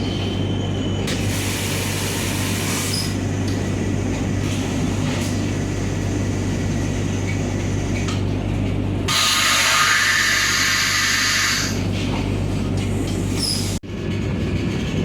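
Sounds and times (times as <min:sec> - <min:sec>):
train coach hum and rumble: 0:00.0 - 0:15.0.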